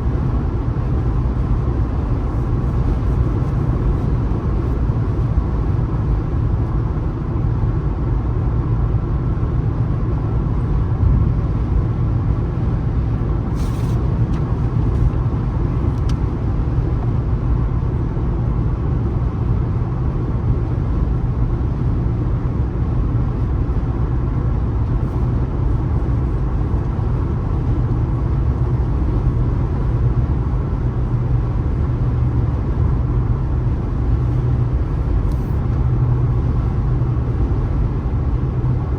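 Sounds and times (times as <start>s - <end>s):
car driving at highway speed: 0.0s - 38.9s.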